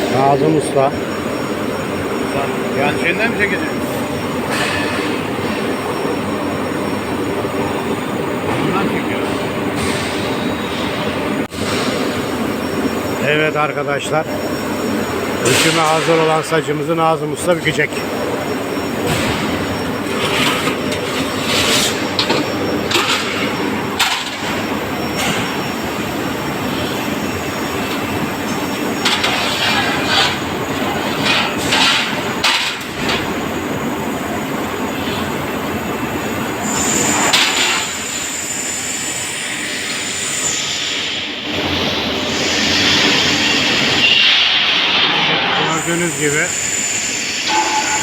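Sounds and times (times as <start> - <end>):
high steady whine: 0.0 - 48.0
workshop machine noise: 0.0 - 48.0.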